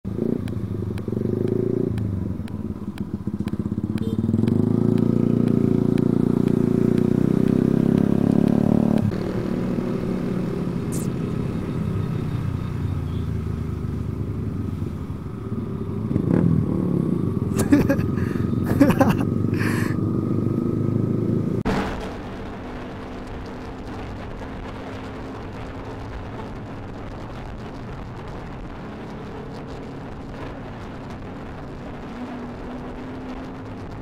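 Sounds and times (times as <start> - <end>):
motorcycle engine revving: 0.1 - 34.0.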